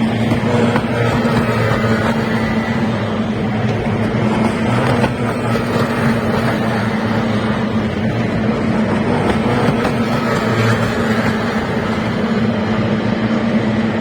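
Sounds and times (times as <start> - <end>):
racing boat engines buzzing: 0.0 - 14.0.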